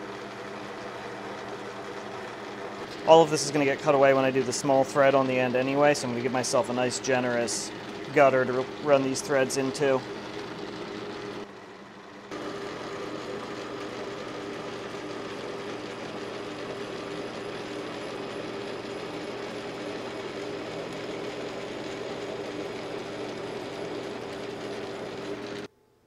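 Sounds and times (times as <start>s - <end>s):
metal lathe humming and whining: 0.0s - 25.7s.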